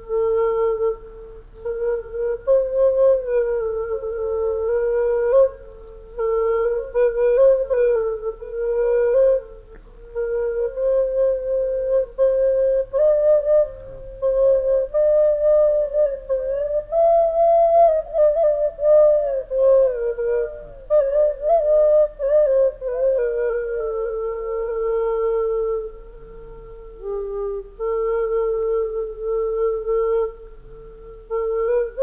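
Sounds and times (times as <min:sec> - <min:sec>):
slow solo flute melody: 0:00.0 - 0:32.0.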